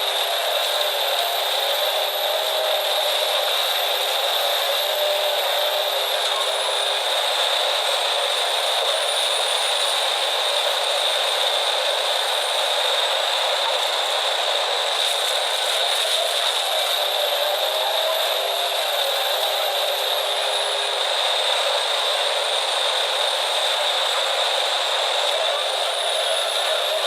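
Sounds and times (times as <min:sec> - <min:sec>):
machinery rattling and whining: 0:00.0 - 0:27.0.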